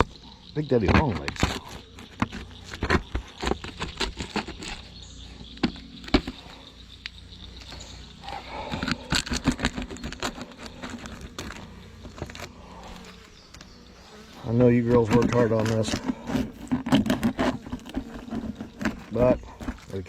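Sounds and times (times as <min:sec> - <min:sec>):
bees humming: 0:00.0 - 0:20.0
tools scraping wooden hive frame: 0:00.0 - 0:20.0.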